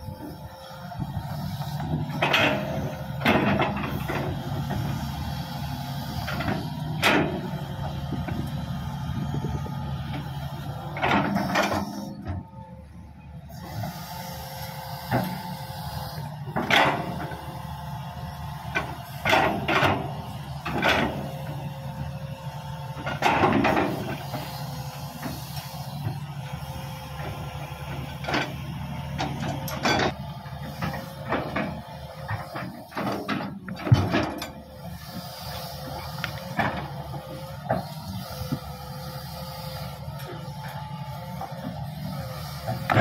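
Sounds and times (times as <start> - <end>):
heavy diesel engines running: 0.0 - 43.0.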